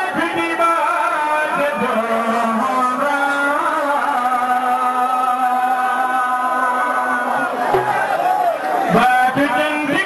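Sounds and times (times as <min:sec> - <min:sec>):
man singing a chant: 0:00.0 - 0:07.6, 0:08.9 - 0:10.0.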